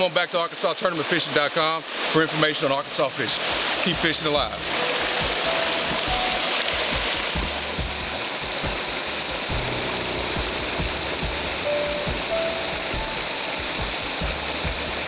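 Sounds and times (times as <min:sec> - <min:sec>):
flowing creek water: 0:00.0 - 0:15.0.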